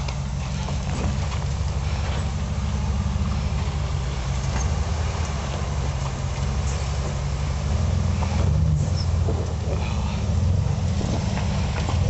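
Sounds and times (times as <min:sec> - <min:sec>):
off-road vehicle engine droning: 0:00.0 - 0:12.0.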